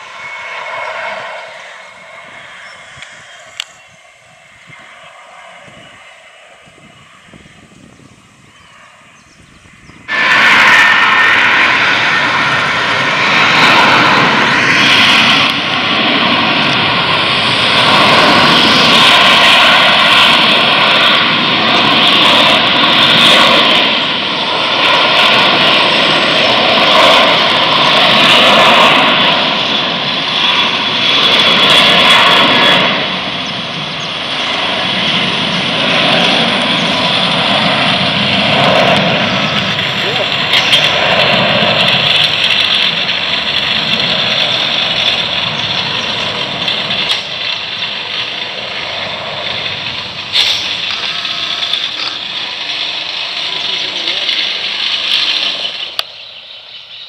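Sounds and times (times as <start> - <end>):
high fan whine: 0.0 - 57.0
jet engines at takeoff: 0.0 - 57.0.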